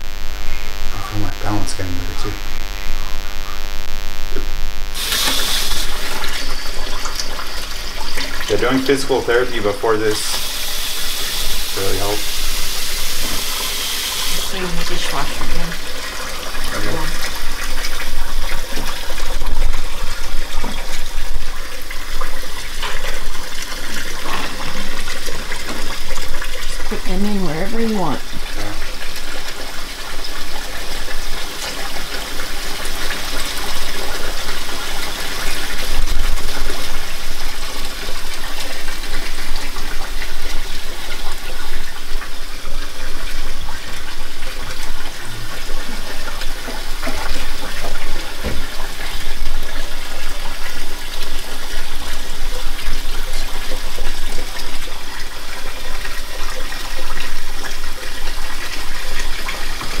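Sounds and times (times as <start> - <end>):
faucet running into a sink: 5.0 - 60.0.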